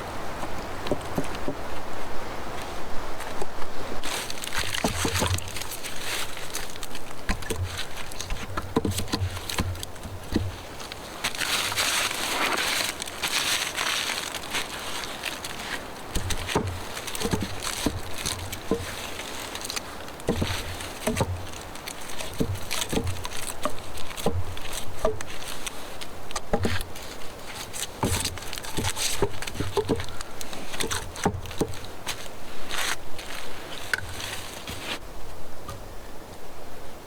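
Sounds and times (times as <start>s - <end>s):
steady rustling noise: 0.0s - 37.0s
dull thumps: 2.6s - 35.0s
knocks and snaps: 3.3s - 34.8s.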